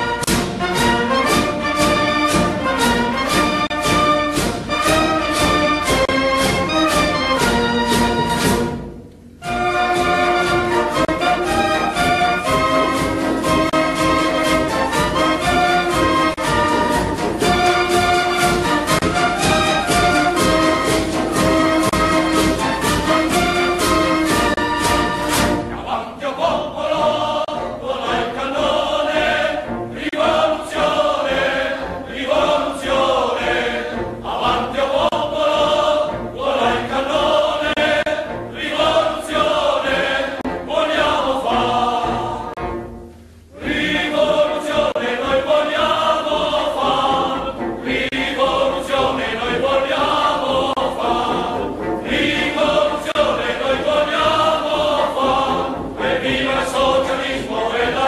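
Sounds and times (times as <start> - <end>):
choral singing: 0.0 - 42.8, 43.5 - 58.0.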